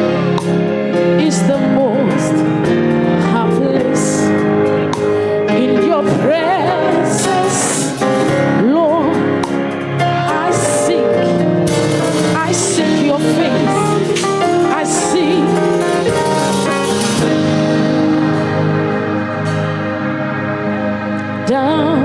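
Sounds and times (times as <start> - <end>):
held instrumental chords: 0.0 - 22.0.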